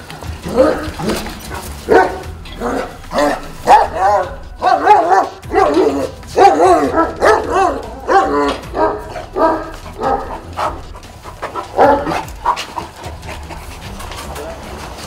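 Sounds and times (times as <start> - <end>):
dogs barking: 0.0 - 15.0.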